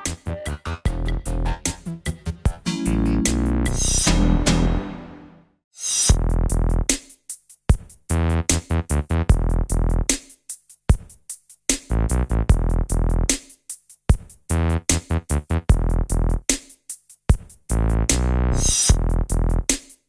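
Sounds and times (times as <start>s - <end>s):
electronic music with drum-machine beat: 0.0s - 4.8s, 6.1s - 20.0s.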